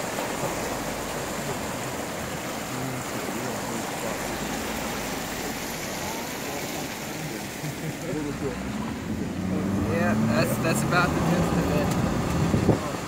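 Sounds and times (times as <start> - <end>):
flood water rushing: 0.0 - 13.0.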